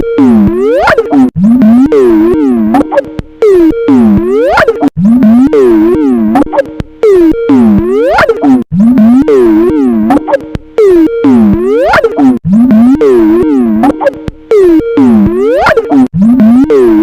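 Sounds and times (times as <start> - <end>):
warped ringtone melody: 0.0 - 17.0.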